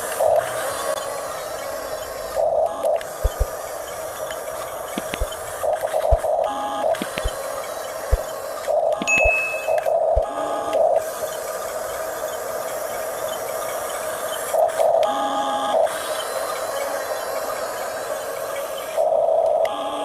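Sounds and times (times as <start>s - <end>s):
toy bulldozer motors whirring: 0.0s - 20.0s.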